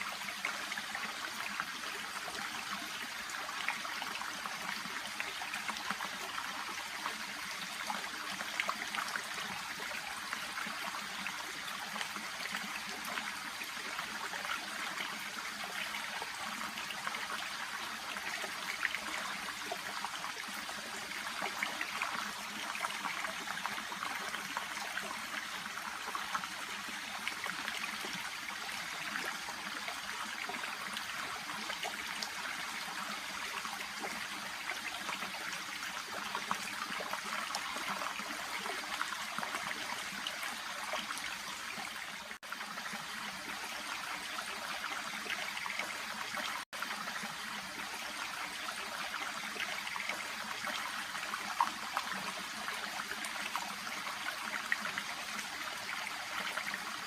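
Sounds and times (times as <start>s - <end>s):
small brook babbling: 0.0s - 57.0s.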